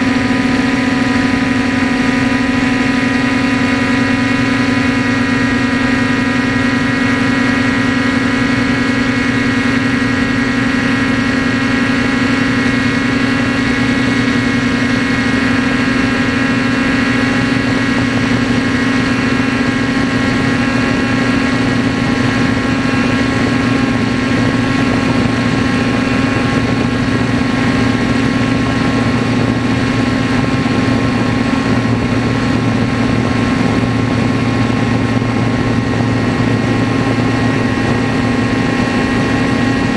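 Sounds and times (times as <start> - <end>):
quadcopter drone humming: 0.0 - 39.9.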